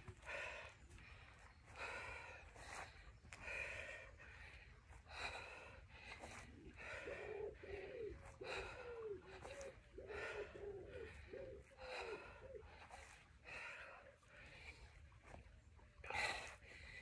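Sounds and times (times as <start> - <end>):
woman breathing hard: 0.0 - 17.0.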